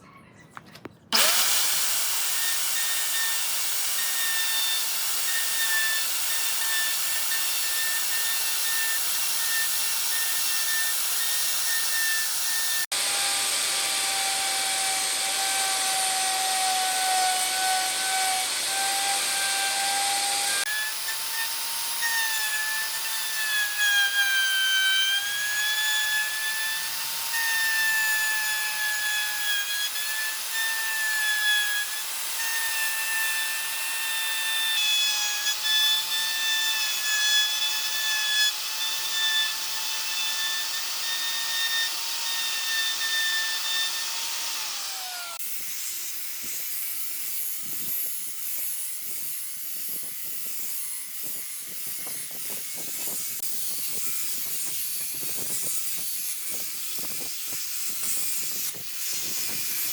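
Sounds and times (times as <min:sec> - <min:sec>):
power tool cutting wood: 0:01.1 - 0:59.9.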